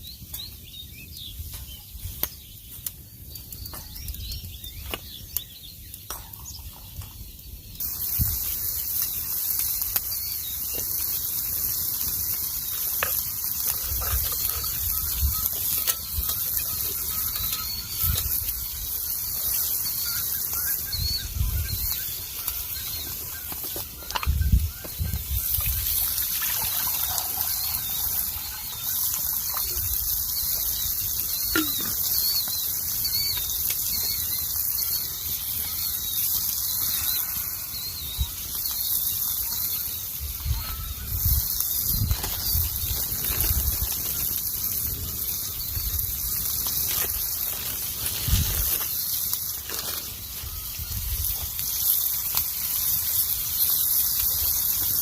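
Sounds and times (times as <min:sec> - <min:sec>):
small birds chirping: 0:00.0 - 0:55.0
steady rushing hiss: 0:05.1 - 0:55.0.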